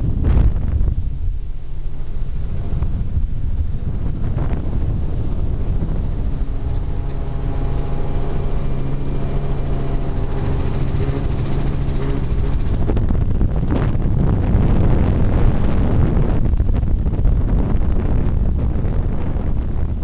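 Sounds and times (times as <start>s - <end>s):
aircraft engine rumble: 0.0s - 20.0s
steady engine hum: 0.0s - 20.0s
wind buffeting microphone: 0.0s - 20.0s.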